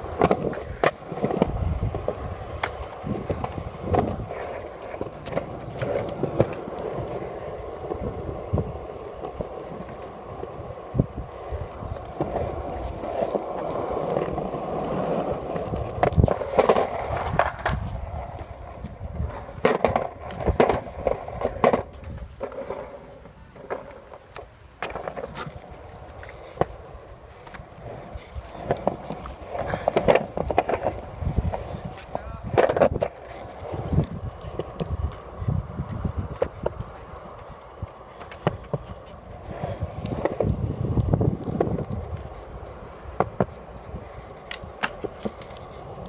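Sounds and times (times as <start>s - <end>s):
skateboard clacks and knocks: 0.0s - 46.0s
skateboard wheels rolling on concrete: 0.0s - 46.0s.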